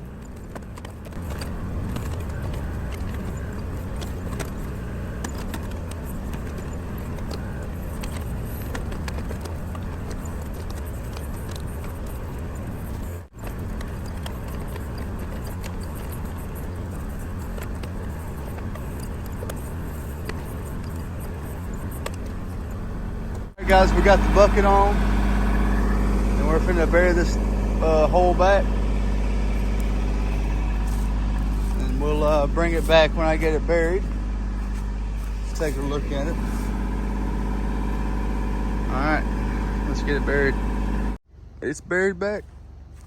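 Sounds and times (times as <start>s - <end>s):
light ticks and rattles: 0.0s - 40.5s
diesel tractor engine running: 0.0s - 43.0s.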